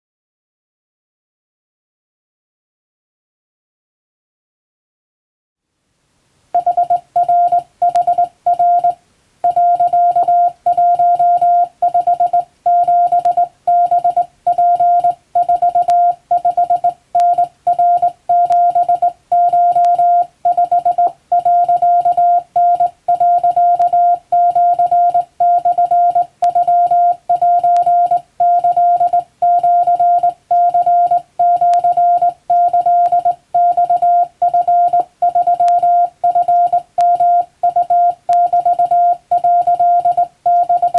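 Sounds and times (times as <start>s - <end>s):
morse code beeps: 6.6s - 40.9s.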